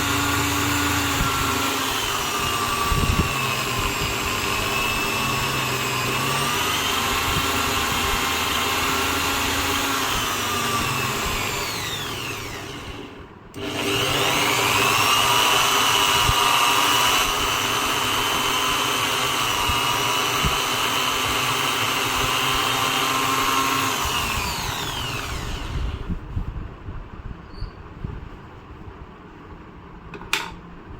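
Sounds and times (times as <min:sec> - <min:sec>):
drill press motor whining: 0:00.0 - 0:26.1.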